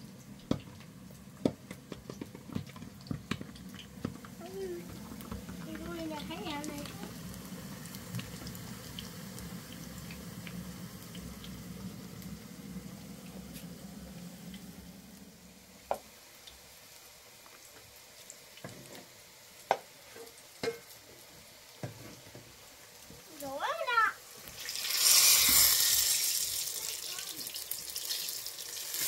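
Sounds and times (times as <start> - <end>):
slices frying in oil: 0.0 - 29.0.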